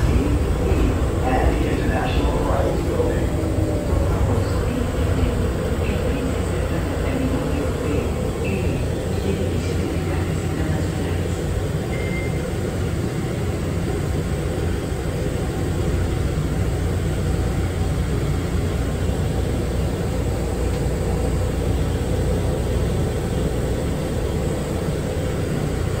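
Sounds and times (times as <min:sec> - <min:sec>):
people-mover car rumble and whir: 0:00.0 - 0:26.0.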